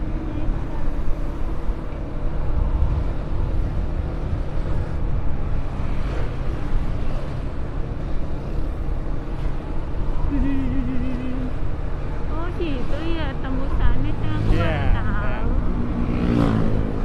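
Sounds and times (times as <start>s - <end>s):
vehicle engine cruising: 0.0s - 17.0s
wind and road noise: 0.0s - 17.0s.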